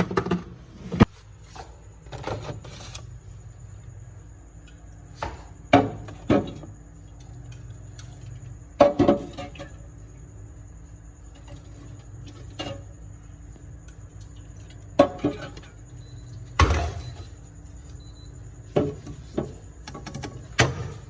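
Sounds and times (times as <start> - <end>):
steady low hum: 0.4 - 21.0.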